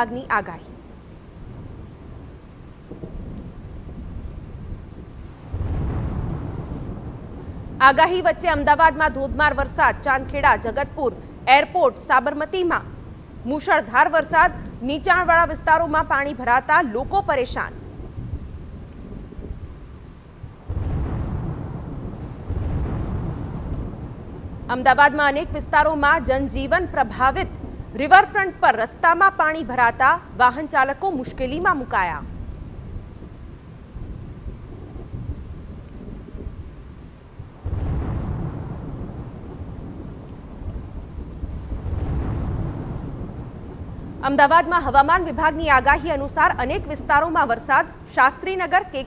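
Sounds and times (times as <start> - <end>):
rain: 0.0 - 49.0
thunder rumbling: 0.0 - 49.0.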